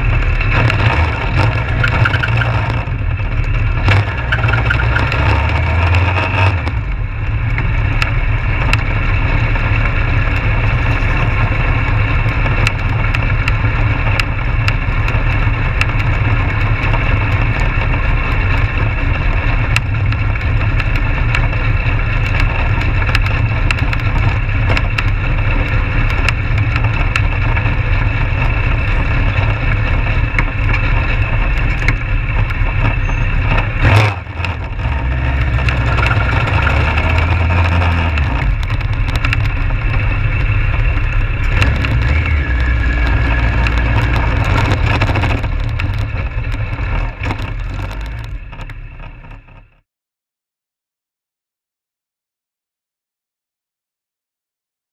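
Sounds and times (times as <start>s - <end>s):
sharp crackling clicks: 0.0s - 8.9s, 12.1s - 49.7s
race car engine running: 0.0s - 49.8s.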